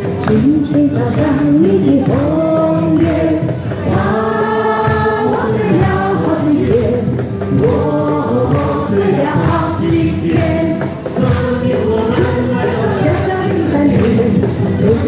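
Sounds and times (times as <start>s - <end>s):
choir singing: 1.2s - 15.0s.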